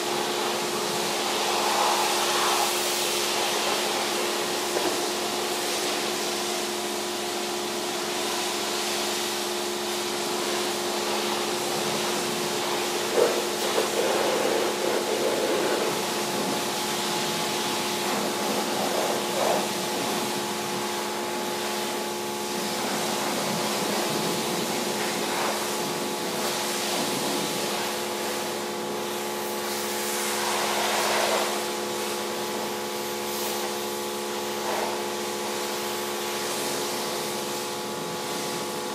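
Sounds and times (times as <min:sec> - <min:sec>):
pressure washer jet hissing: 0:00.0 - 0:38.9.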